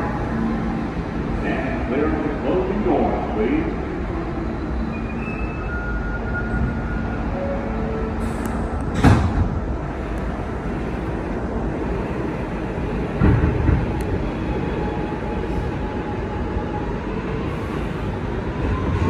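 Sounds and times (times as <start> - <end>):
subway car rumbling on rails: 0.0 - 19.0.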